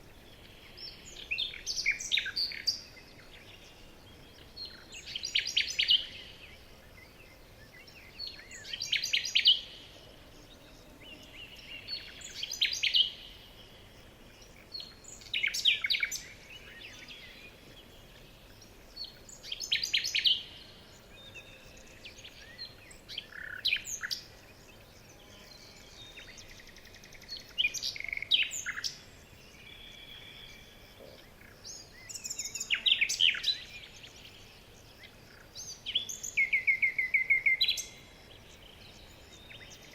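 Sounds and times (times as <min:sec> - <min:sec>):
low outdoor hiss: 0:00.0 - 0:39.9
songbird singing: 0:00.0 - 0:39.9.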